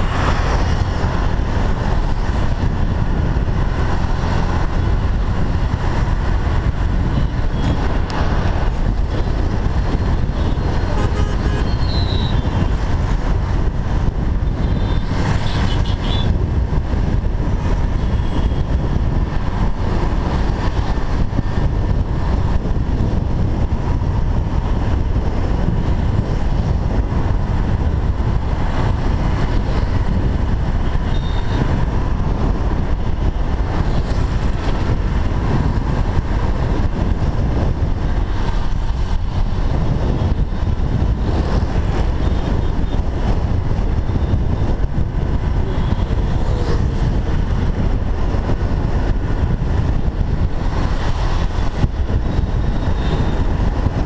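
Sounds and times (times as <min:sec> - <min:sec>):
road noise: 0:00.0 - 0:54.0
surrounding traffic: 0:00.0 - 0:54.0
wind rush on helmet: 0:00.0 - 0:54.0.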